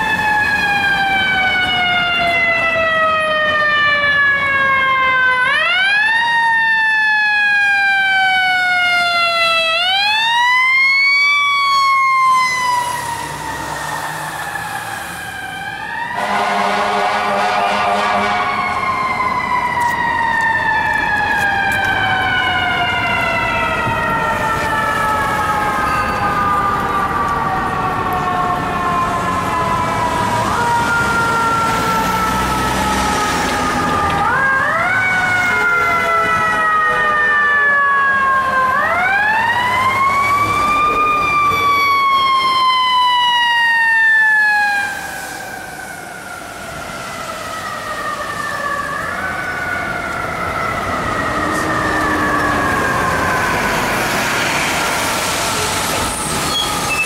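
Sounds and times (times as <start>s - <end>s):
city traffic noise: 0.0s - 57.0s.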